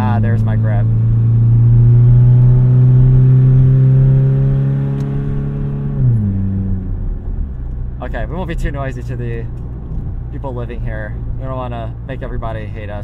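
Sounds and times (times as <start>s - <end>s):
car engine through open exhaust: 0.0s - 13.0s.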